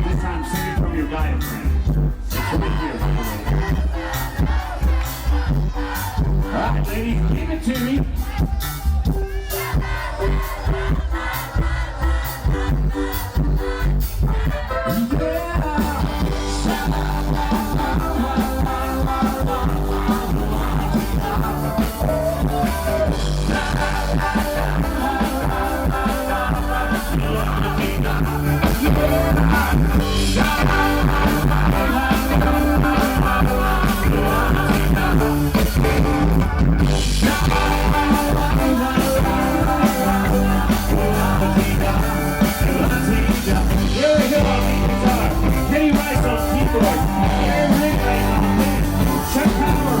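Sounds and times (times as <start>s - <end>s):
live rock band: 0.0s - 50.0s
person singing: 0.0s - 50.0s.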